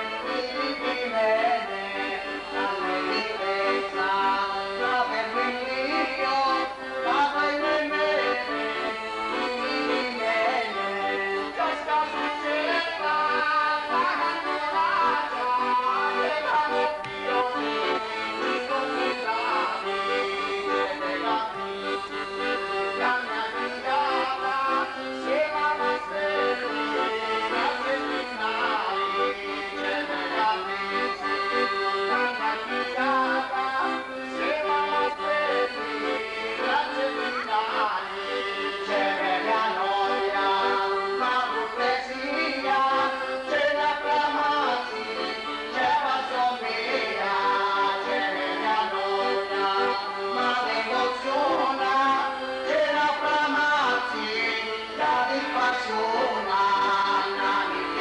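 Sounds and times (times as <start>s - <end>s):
accordion playing folk tune: 0.0s - 58.0s.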